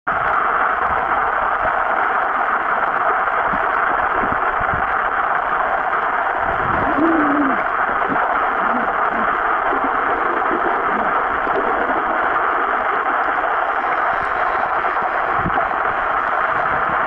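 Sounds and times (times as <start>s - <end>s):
water rushing underwater: 0.1s - 17.0s.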